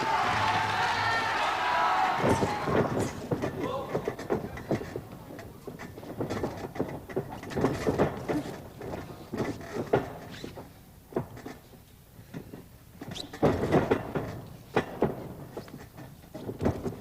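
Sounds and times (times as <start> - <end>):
wrestlers thumping on ring mat: 0.0 - 11.6, 12.4 - 17.0.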